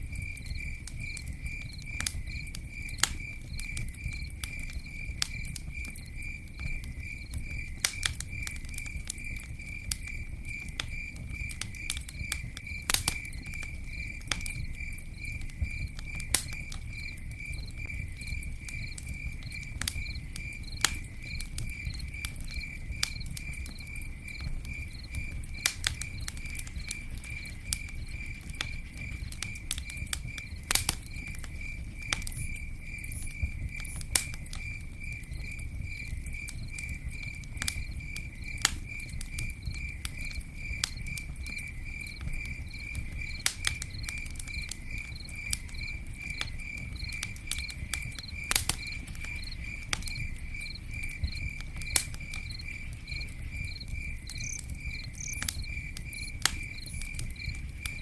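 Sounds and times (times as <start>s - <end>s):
campfire crackling: 0.0s - 58.0s
insect chirping: 0.0s - 58.0s.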